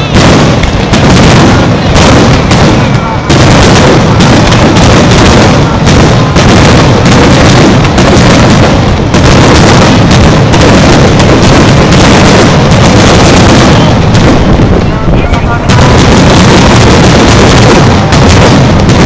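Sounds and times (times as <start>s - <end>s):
fireworks bangs and crackle: 0.0s - 19.0s.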